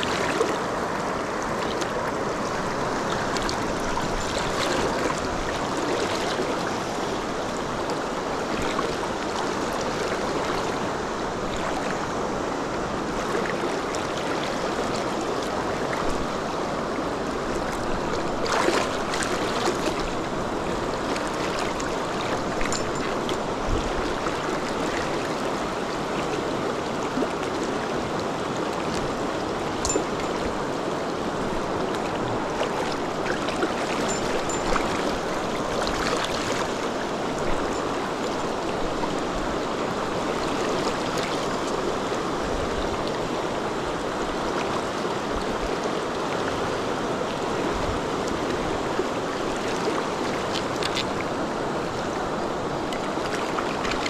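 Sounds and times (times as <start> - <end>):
shallow rapids rushing: 0.0 - 54.0.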